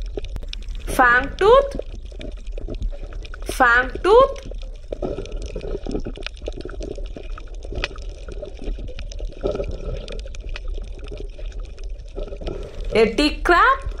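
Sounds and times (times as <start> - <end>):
small irregular clicks: 0.0 - 0.9, 1.6 - 3.5, 4.3 - 12.9
water bubbling and gurgling: 0.0 - 14.0.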